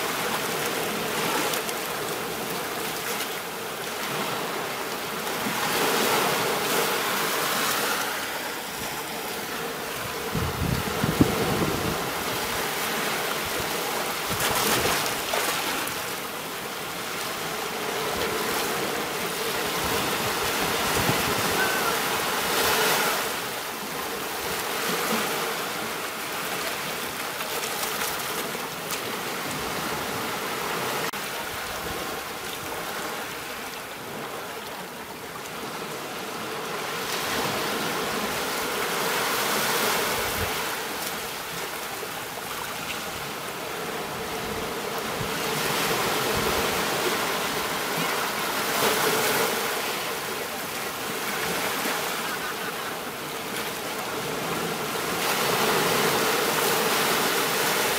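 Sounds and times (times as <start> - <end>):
small waves breaking on shore: 0.0 - 57.9.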